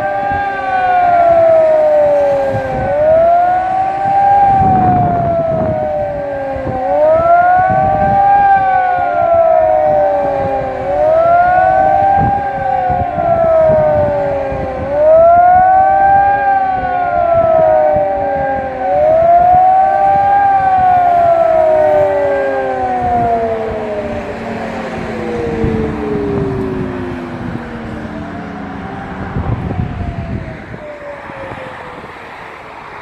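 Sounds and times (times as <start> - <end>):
civil defence siren wailing: 0.0 - 33.0
distant siren rising and falling: 0.0 - 33.0
wind buffeting microphone: 0.0 - 33.0.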